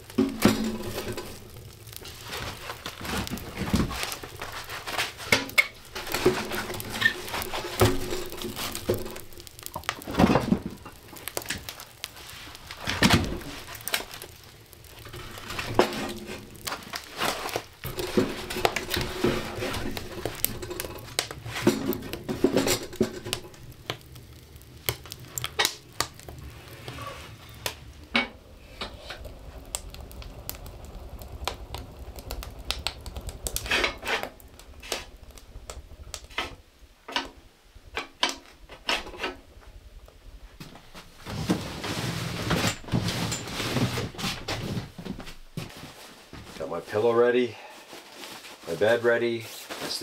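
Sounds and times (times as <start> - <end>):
rustling: 0.0 - 50.0.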